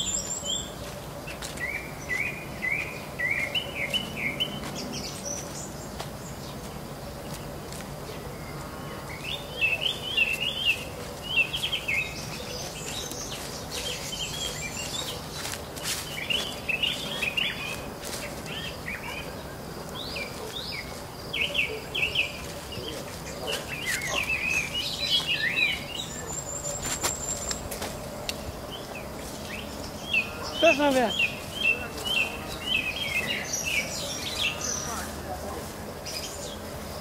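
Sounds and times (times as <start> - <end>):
songbirds singing: 0.0 - 37.0
steady background hiss: 0.0 - 37.0.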